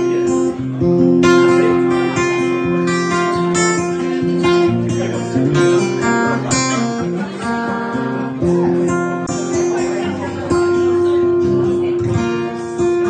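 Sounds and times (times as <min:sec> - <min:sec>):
live country band playing: 0:00.0 - 0:13.0
strummed acoustic guitar: 0:00.0 - 0:13.0.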